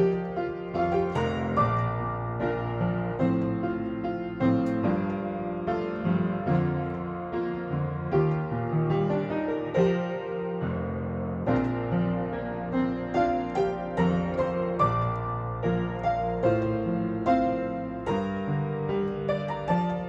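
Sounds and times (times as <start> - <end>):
slow gentle piano music: 0.0 - 20.0.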